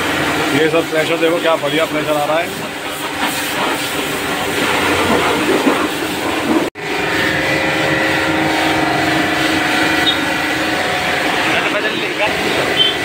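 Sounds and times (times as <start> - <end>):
pressure washer jet hissing: 0.0 - 13.0
pump and motor hum: 0.0 - 13.0.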